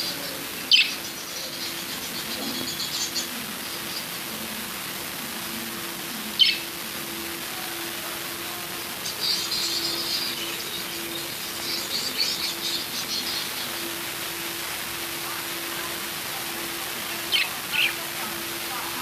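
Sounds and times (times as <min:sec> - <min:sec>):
lovebirds chirping: 0:00.0 - 0:04.2, 0:06.3 - 0:19.0
low hum and hiss: 0:00.0 - 0:19.0.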